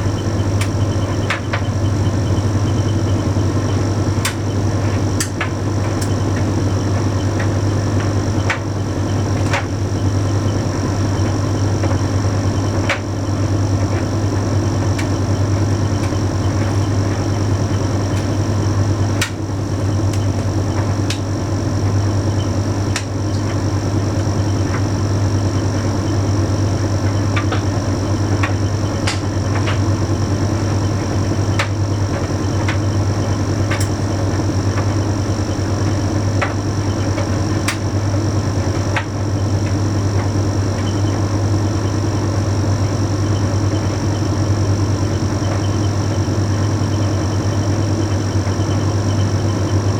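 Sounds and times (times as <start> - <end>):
faint high whine: 0.0 - 49.9
tumble dryer humming: 0.0 - 49.9.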